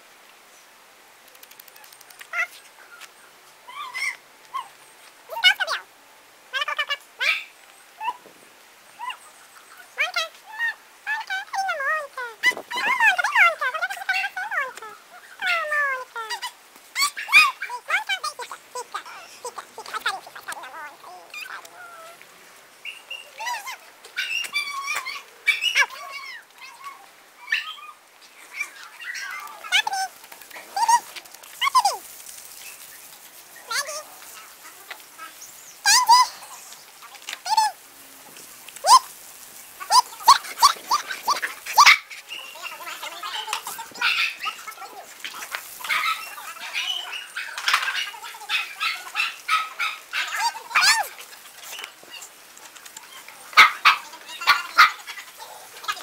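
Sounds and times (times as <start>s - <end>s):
dogs yelping and yapping: 3.7s - 5.8s, 6.6s - 8.3s, 9.0s - 22.2s, 22.8s - 37.8s, 38.8s - 56.0s.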